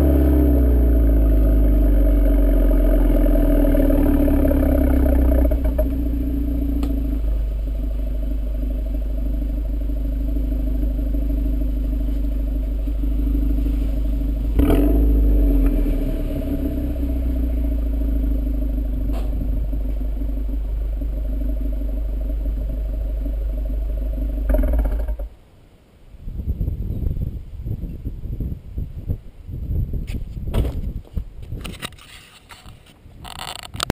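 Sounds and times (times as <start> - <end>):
car engine exhaust drone: 0.0 - 27.6.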